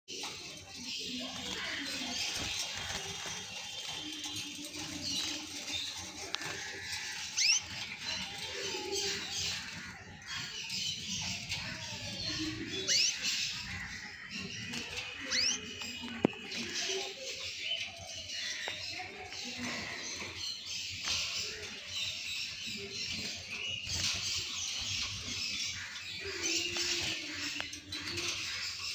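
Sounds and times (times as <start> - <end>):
birds scratching in cage: 0.1 - 17.4, 18.4 - 28.9
canaries and finches chirping: 0.1 - 28.9.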